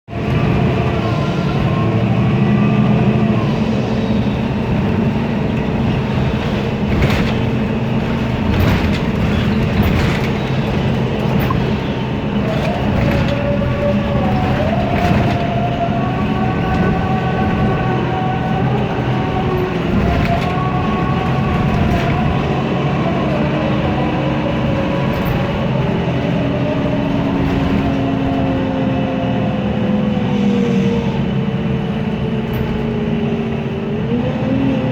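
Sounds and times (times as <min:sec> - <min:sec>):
bus engine running with whines: 0:00.0 - 0:34.9
bus body parts rattling: 0:00.1 - 0:29.8, 0:31.3 - 0:34.9.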